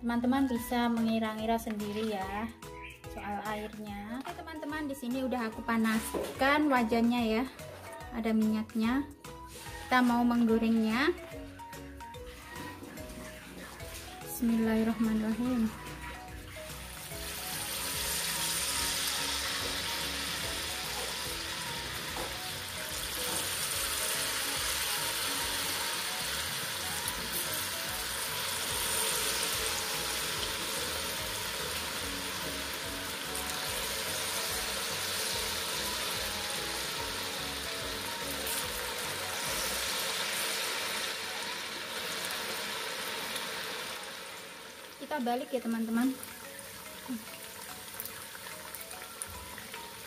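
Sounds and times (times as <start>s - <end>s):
hot oil sizzling: 8.8s - 50.0s.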